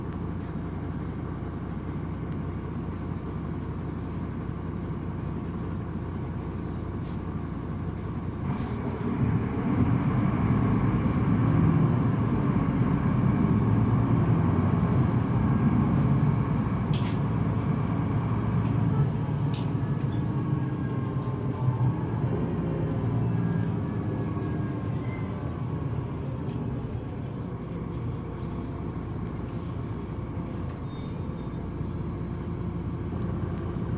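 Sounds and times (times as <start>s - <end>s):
bus diesel engine running: 0.0s - 33.9s.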